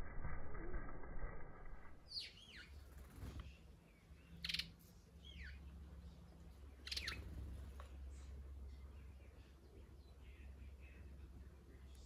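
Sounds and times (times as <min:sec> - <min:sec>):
low steady hum: 0:00.0 - 0:12.0
small birds chirping: 0:02.0 - 0:12.0.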